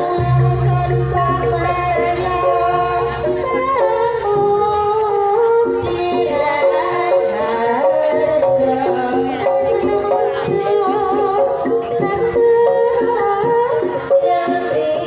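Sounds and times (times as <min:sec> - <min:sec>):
amplified music: 0:00.0 - 0:15.0
woman singing into microphone: 0:00.0 - 0:15.0
women singing along: 0:00.0 - 0:15.0.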